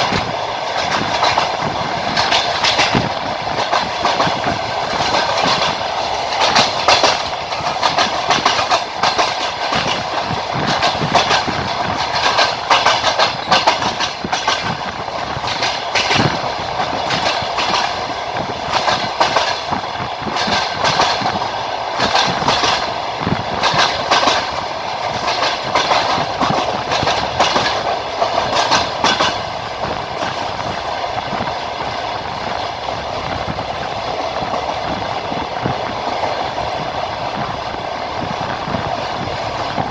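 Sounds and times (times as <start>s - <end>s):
train wheels clattering over joints: 0.0s - 39.9s.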